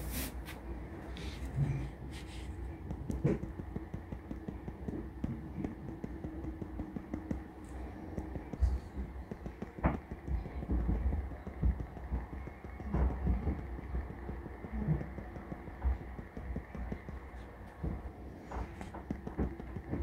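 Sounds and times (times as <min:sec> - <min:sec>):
faint steady hum: 0:00.0 - 0:20.0
pen nib tapping on paper: 0:02.1 - 0:20.0.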